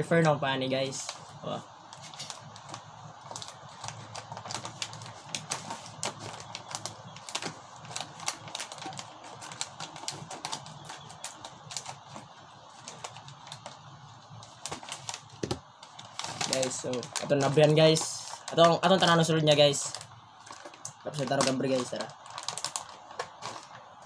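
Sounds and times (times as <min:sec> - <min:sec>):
plastic packaging crinkling: 0:00.6 - 0:24.0.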